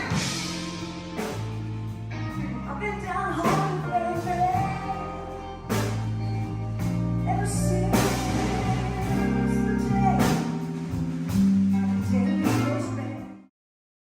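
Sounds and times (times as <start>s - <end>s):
blues band playing: 0.0s - 13.5s.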